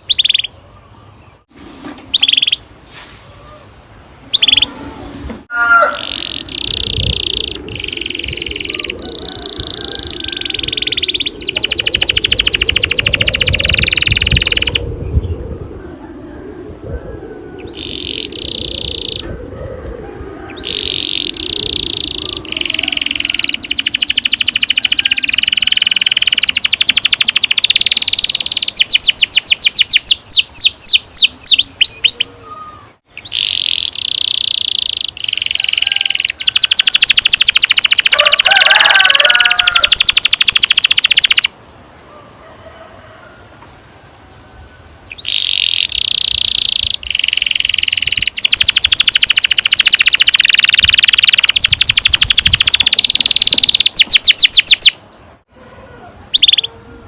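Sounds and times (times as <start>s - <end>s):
canary singing trills: 0.0s - 1.4s, 2.1s - 2.7s, 4.2s - 16.0s, 17.6s - 19.3s, 20.4s - 42.3s, 45.0s - 57.0s.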